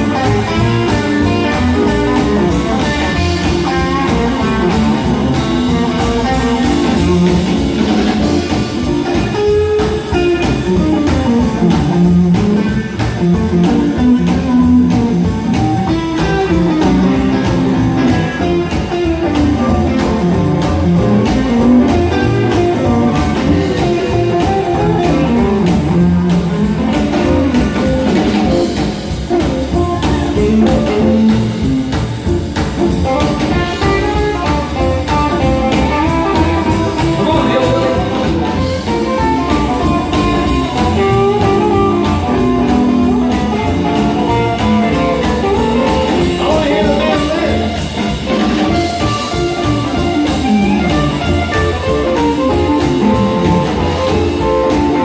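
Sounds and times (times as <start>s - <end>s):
bass guitar: 0.0s - 55.0s
electric guitar lines: 0.0s - 55.0s
steady drum beat: 0.0s - 55.0s.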